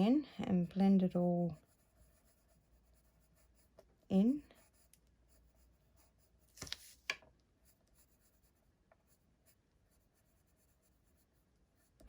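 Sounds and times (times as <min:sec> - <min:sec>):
pencil rubbing on paper: 0:00.5 - 0:06.5, 0:07.6 - 0:12.0.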